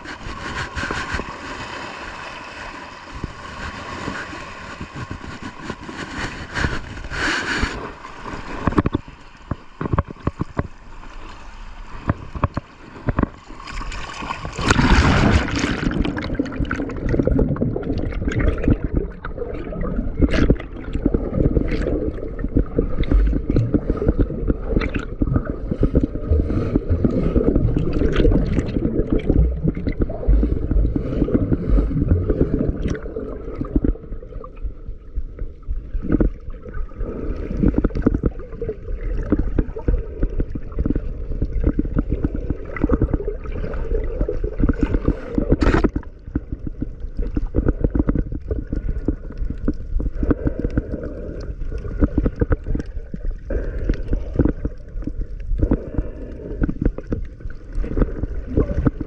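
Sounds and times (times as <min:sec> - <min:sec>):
muffled underwater rush: 0:00.0 - 0:59.0
water gurgling: 0:00.0 - 0:59.0.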